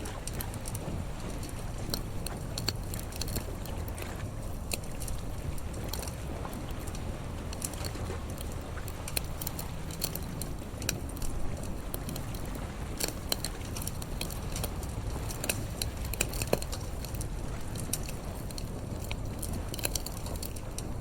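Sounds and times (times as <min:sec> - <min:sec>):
campfire crackling and popping: 0:00.0 - 0:21.0
low steady rumble: 0:00.0 - 0:21.0.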